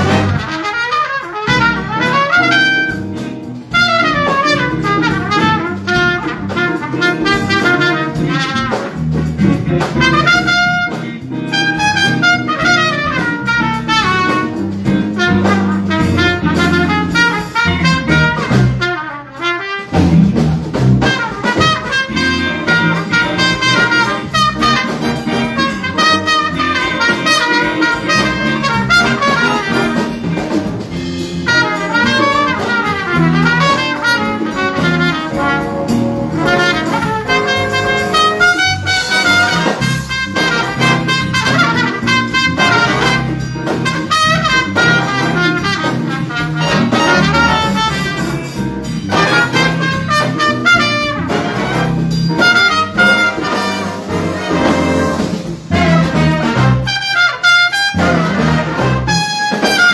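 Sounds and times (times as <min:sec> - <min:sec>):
big band jazz with brass: 0:00.0 - 0:59.9.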